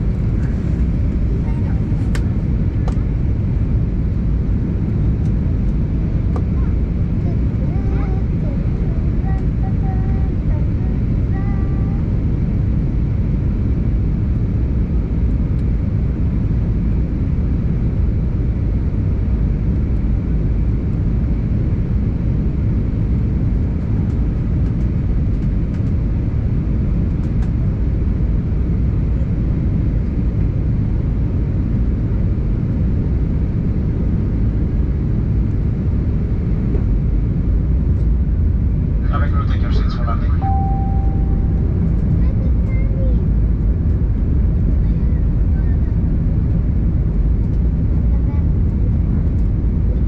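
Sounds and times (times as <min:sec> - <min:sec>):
airliner cabin engine roar: 0:00.0 - 0:50.0.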